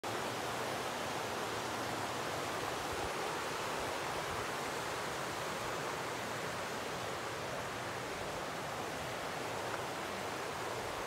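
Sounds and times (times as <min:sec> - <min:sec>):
river rushing over stones: 0:00.1 - 0:11.0.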